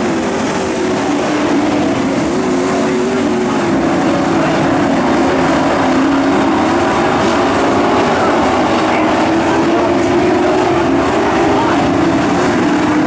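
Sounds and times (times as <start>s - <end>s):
race truck engines droning: 0.0s - 13.0s.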